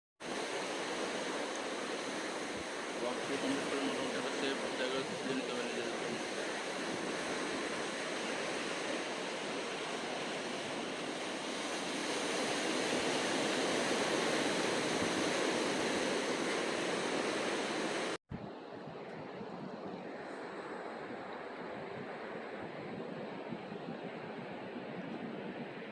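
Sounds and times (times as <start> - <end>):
sea surf washing: 0.2 - 25.9.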